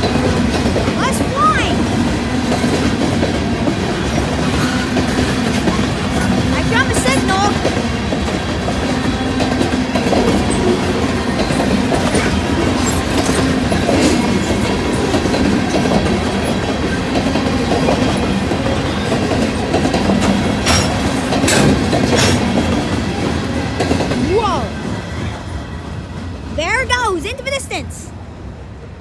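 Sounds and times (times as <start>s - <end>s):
wheels clacking over rail joints: 0.0s - 25.5s
freight train rumbling: 0.0s - 29.0s.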